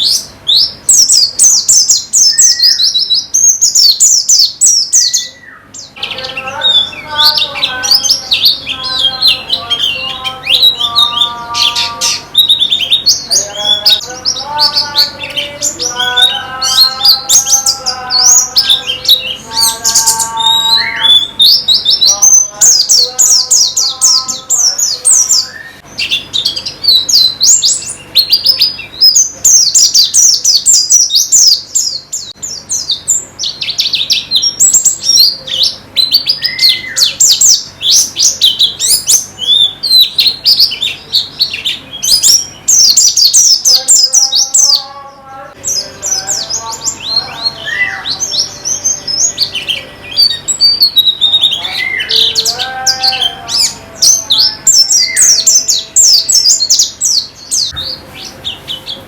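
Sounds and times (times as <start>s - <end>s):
birds chattering song: 0.0s - 59.0s.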